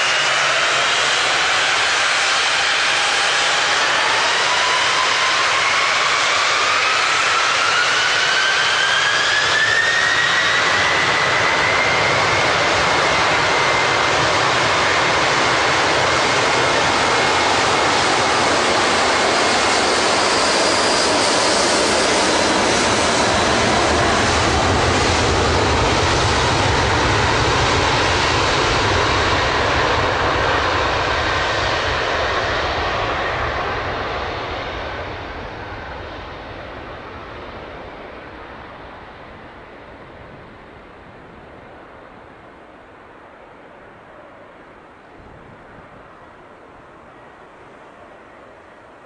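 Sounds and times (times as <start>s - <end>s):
jet engines at takeoff thrust: 0.0s - 49.0s.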